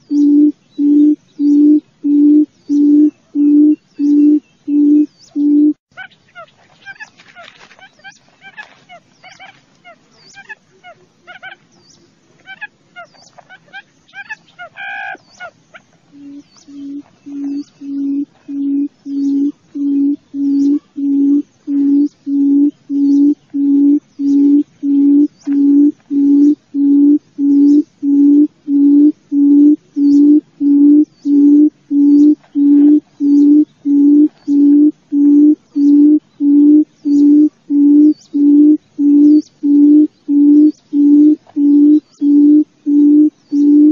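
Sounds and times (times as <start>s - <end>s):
quail hooting call: 0.0s - 11.6s, 12.4s - 43.9s
small birds chirping: 0.0s - 43.9s.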